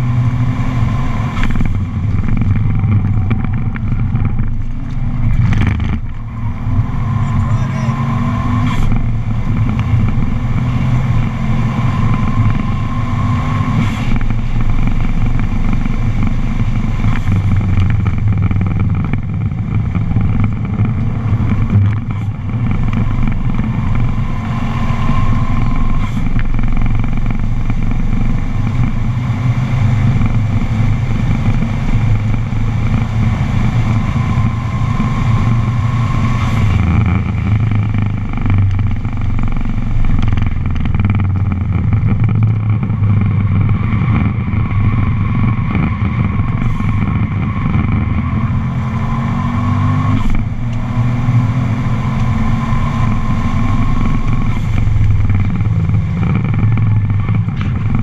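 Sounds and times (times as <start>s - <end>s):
car engine pulling hard: 0.0s - 58.0s.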